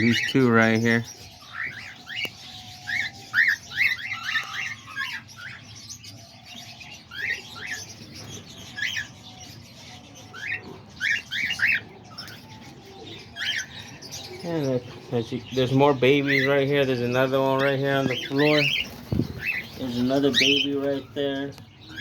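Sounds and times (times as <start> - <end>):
cockatiels chirping: 0.0 - 22.0.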